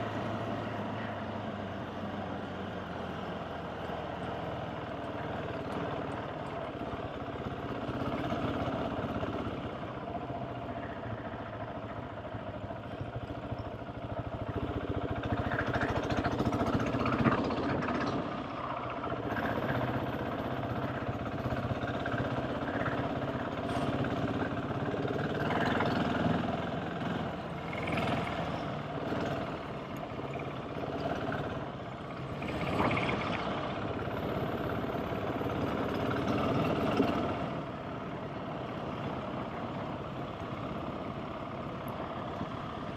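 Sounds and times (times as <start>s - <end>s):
motorcycle engine running: 3.2s - 42.9s.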